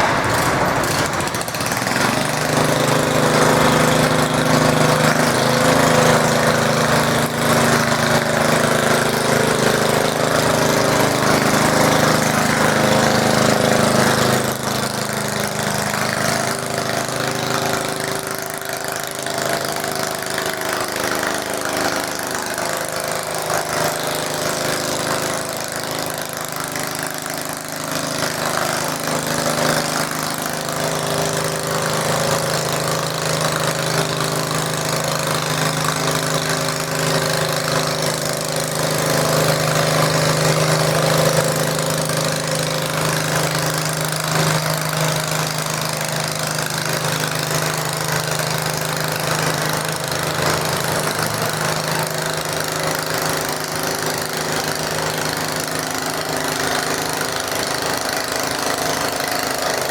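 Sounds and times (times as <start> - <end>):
garden tractor engine running: 0.0 - 59.9.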